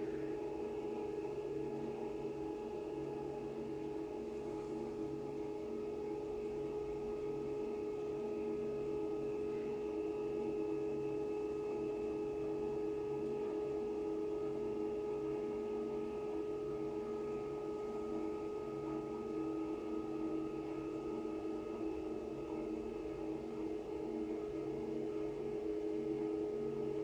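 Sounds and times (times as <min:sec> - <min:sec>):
scanner machine hum: 0:00.0 - 0:27.0.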